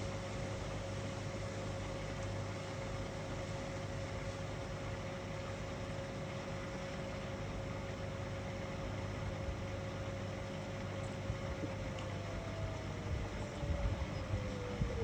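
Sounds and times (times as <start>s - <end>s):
washing machine low rumble: 0.0s - 15.0s
washing machine motor whine: 0.0s - 15.0s.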